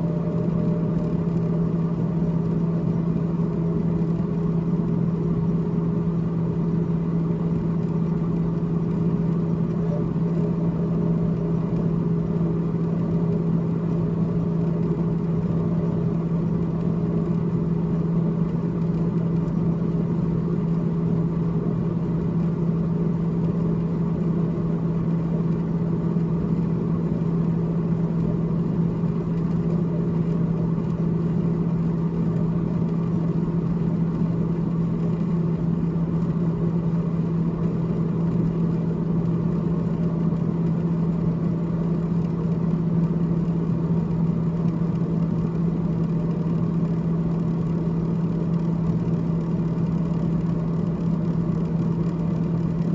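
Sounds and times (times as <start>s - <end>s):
refrigerator fan hum: 0.0s - 52.9s.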